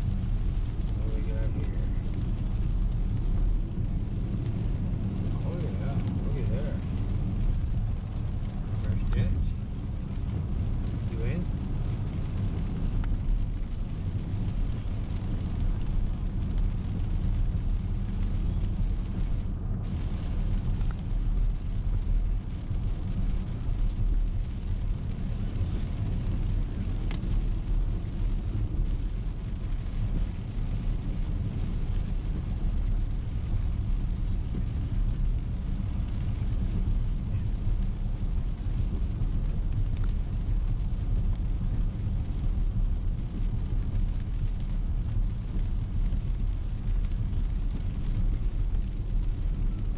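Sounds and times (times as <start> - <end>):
car road and engine noise: 0.0 - 49.9.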